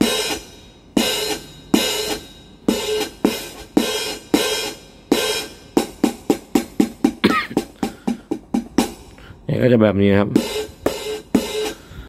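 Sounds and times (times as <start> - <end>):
open hi-hat hits: 0.0 - 12.0.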